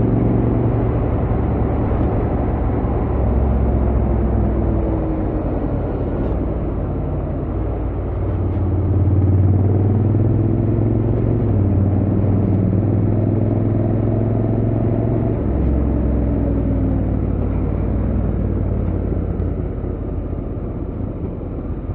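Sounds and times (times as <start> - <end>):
wind and road noise: 0.0 - 21.9.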